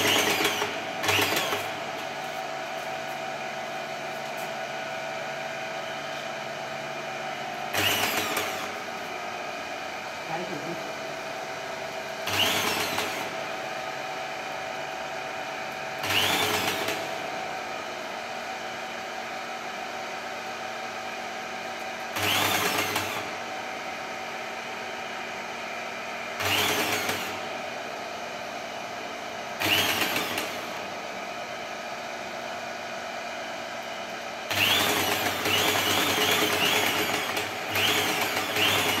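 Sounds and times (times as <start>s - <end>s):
electric pump motor spinning up: 0.0s - 39.0s.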